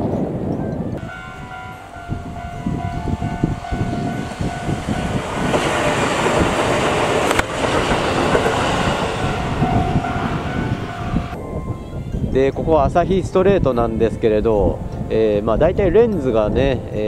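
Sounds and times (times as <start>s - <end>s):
wind buffeting microphone: 0.0s - 17.0s
electric train passing: 0.1s - 15.8s.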